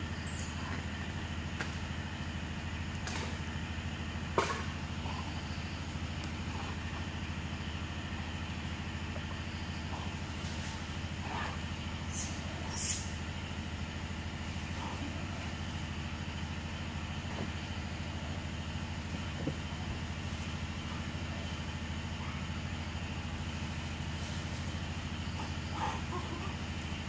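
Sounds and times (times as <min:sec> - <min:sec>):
low motor drone: 0:00.0 - 0:27.0.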